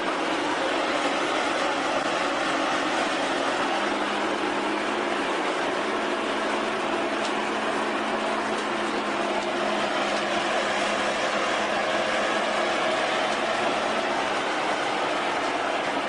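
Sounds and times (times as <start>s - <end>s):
machinery engine drone: 0.0s - 16.0s.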